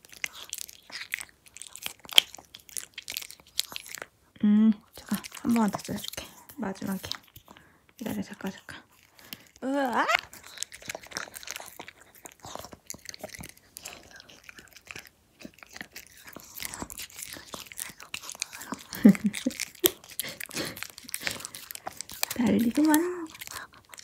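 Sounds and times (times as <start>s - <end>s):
dog licking and smacking: 0.0s - 4.2s, 4.8s - 24.0s.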